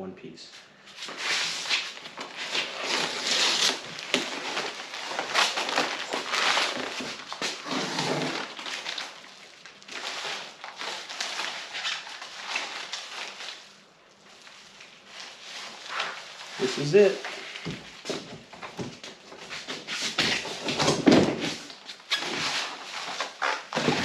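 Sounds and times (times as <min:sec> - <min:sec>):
packaging rustling and crinkling: 0:01.0 - 0:24.0.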